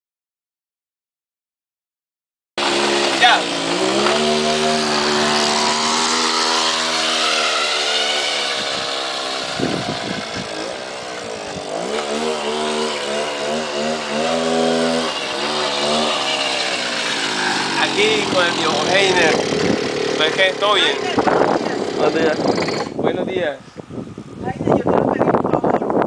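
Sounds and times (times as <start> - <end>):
motorcycle engine running: 2.6 - 26.0
wind rushing: 3.5 - 26.0.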